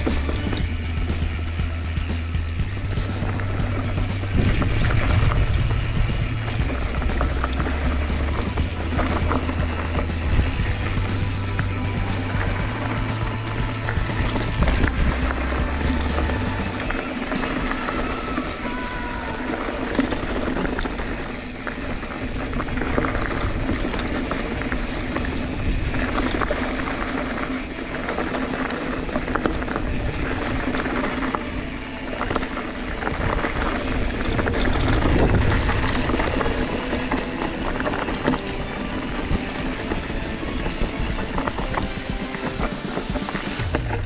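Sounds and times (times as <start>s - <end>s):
bike rattling over bumps: 0.0s - 44.0s
bike tyres rolling on dirt: 0.0s - 44.0s.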